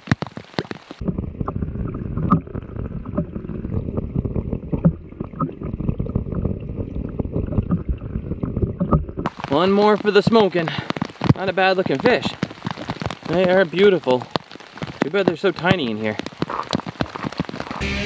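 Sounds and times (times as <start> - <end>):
muffled underwater rain rumble: 0.0 - 17.8
rain pattering: 0.0 - 17.8
raindrops ticking and popping: 0.0 - 17.8.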